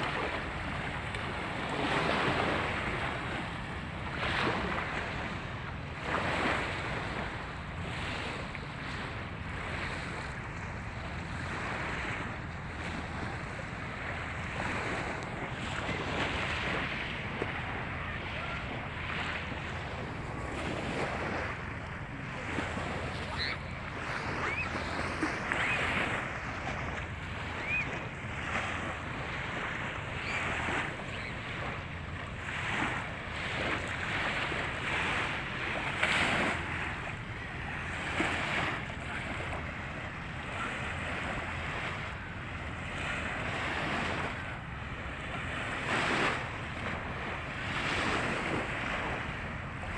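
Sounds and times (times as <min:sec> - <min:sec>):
waves washing onto beach: 0:00.0 - 0:49.9.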